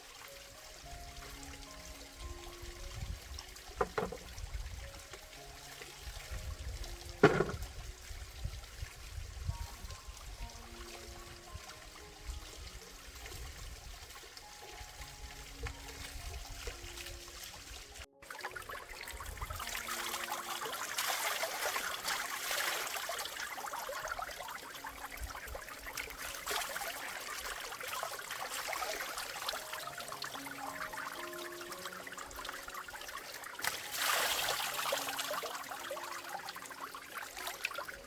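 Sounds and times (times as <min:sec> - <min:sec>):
soft background music: 0:00.0 - 0:38.0
water trickling and splashing: 0:00.0 - 0:38.0.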